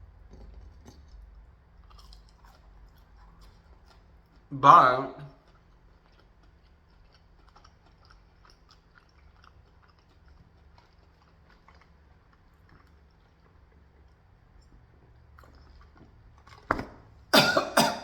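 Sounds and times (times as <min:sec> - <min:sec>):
low steady hum: 0:00.0 - 0:18.0
person chewing: 0:00.1 - 0:04.5, 0:05.2 - 0:18.0.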